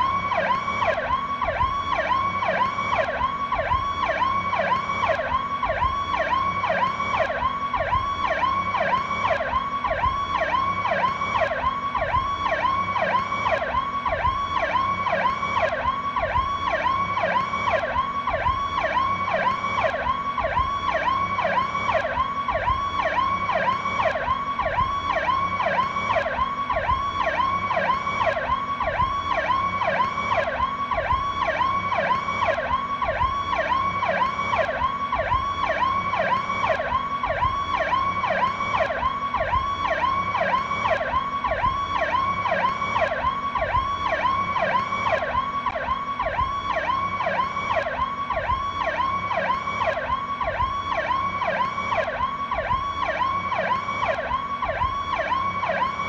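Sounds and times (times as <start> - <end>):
electronic police siren: 0.0 - 56.0.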